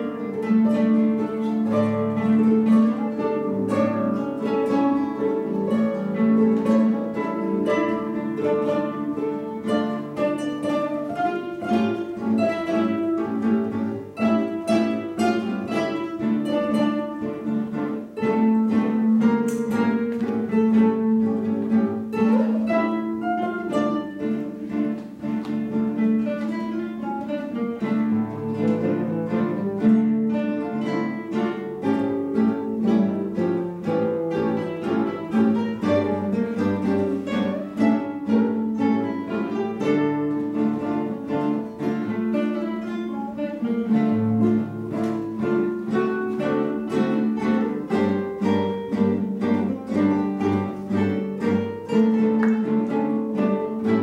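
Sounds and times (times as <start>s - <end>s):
acoustic guitars ensemble playing: 0.0s - 54.0s.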